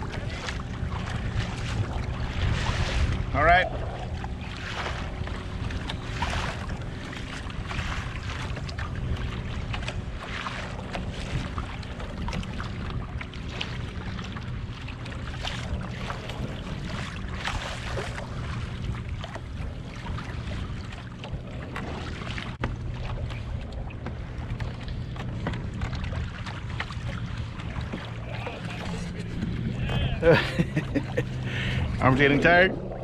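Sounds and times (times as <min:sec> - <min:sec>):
low rumble: 0:00.0 - 0:33.0
water splashing against kayak hull: 0:00.0 - 0:33.0
wind buffeting microphone: 0:00.0 - 0:33.0.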